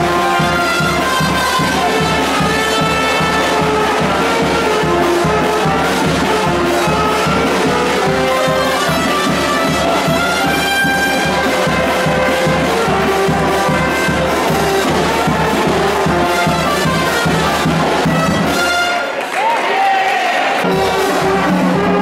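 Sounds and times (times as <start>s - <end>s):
live music with steady beat: 0.0s - 19.2s, 20.6s - 22.0s.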